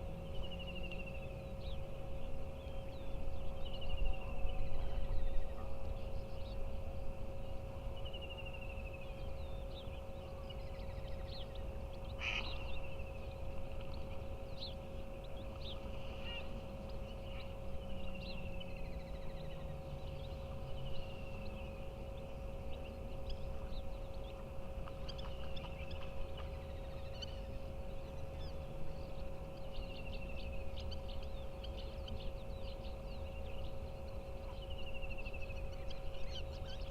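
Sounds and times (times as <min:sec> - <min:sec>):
faint constant hum: 0:00.0 - 0:36.9
low steady rumble: 0:00.0 - 0:36.9
birds chirping and trilling: 0:00.3 - 0:36.9.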